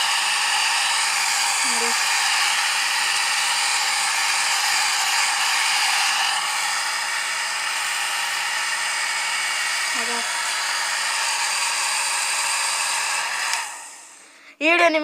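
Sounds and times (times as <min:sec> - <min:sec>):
hair dryer blowing: 0:00.0 - 0:14.4.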